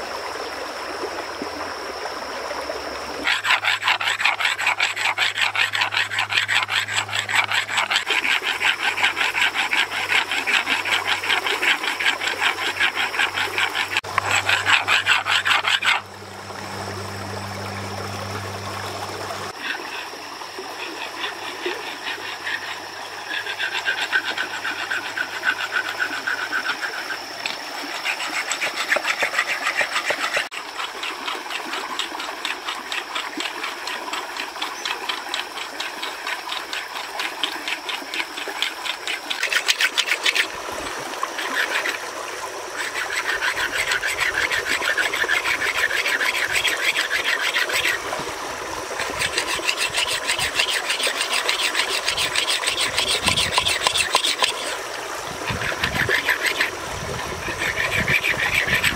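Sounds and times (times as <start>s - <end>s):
knife scraping bamboo: 3.2s - 16.1s, 21.2s - 40.6s, 41.4s - 42.0s, 42.8s - 48.2s, 49.0s - 56.8s, 57.4s - 58.9s.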